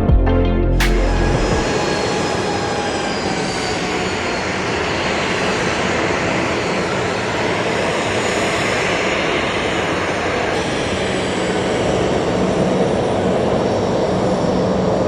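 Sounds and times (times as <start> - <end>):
helicopter engines and rotor: 1.2 - 15.0.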